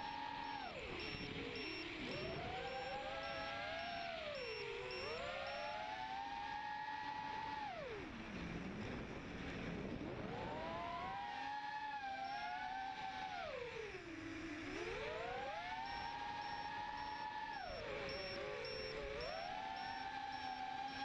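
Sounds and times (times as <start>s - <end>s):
drone motors whining: 0.0s - 8.6s, 10.2s - 21.0s.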